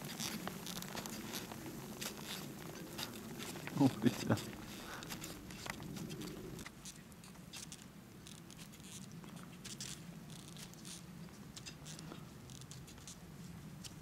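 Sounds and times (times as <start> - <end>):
faint rustling and crackling: 0.0 - 14.0
low steady hum: 0.0 - 14.0.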